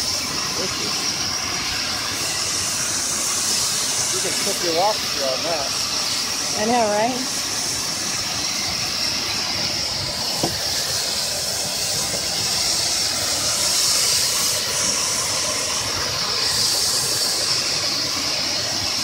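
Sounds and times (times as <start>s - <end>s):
steam hissing from vent: 0.0s - 19.0s.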